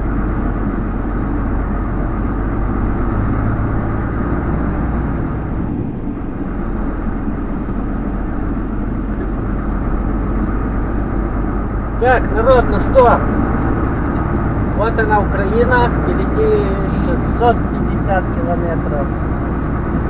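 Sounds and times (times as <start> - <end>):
road noise: 0.0 - 20.0
truck engine running: 0.0 - 20.0.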